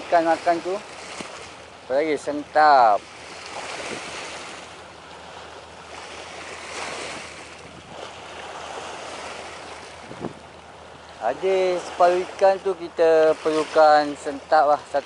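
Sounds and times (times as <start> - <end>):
waves washing against rocks: 0.0 - 15.0.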